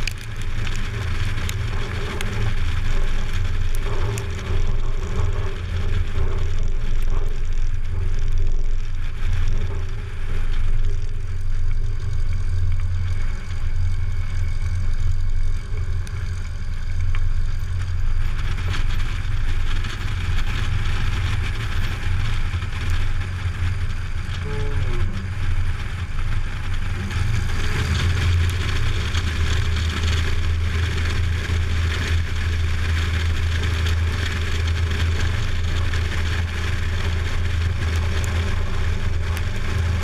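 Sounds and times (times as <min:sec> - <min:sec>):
light aircraft engine droning: 0:00.0 - 0:40.0.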